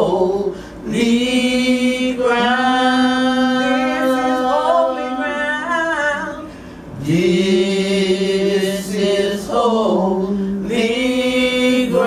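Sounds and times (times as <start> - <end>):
women singing a long note: 0.0 - 12.0.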